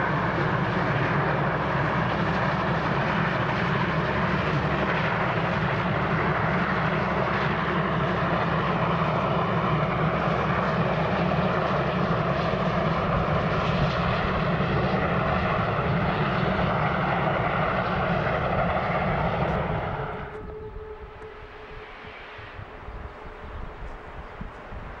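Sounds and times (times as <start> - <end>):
steam locomotive exhaust rush: 0.0 - 25.0.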